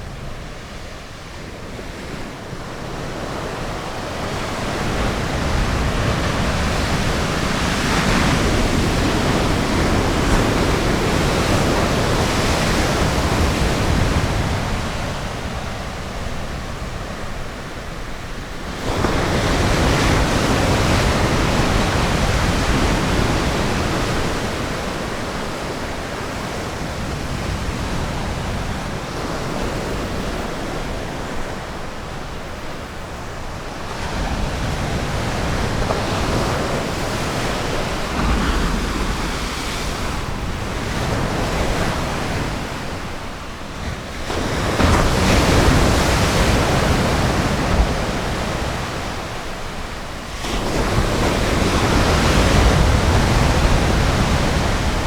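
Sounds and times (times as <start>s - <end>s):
ocean waves washing on beach: 0.0s - 55.0s.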